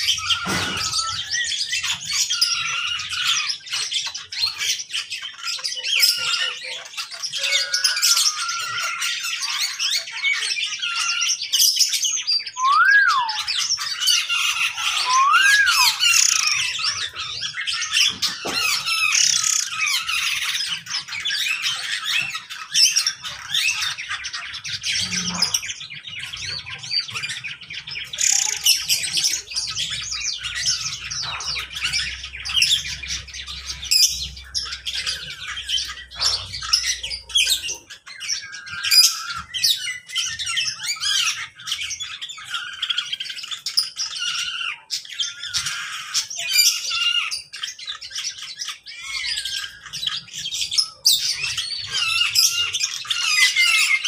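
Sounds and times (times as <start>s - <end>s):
whistled bird notes: 0.0s - 4.7s, 5.3s - 54.0s
birds chirping and squawking: 0.0s - 54.0s.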